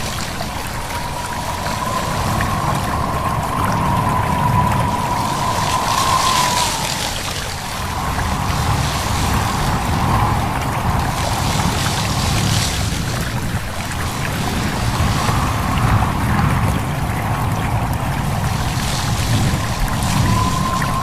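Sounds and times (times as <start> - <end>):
babbling stream: 0.0 - 21.0
wind rustling leaves: 0.0 - 21.0.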